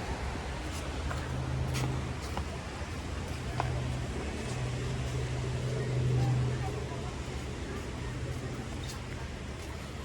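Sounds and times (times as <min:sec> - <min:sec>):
engine humming steadily: 0:00.0 - 0:10.0
wind and water noise: 0:00.0 - 0:10.0.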